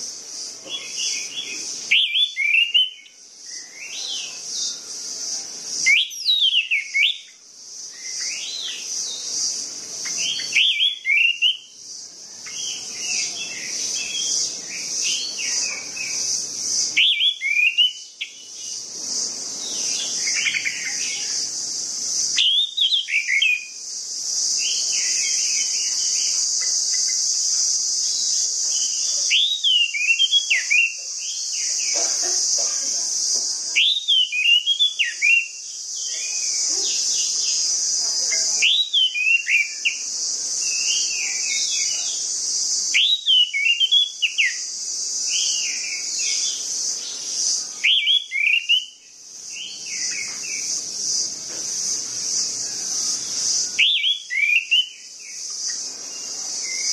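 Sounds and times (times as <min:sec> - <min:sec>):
steady high hiss: 0:00.0 - 0:56.9.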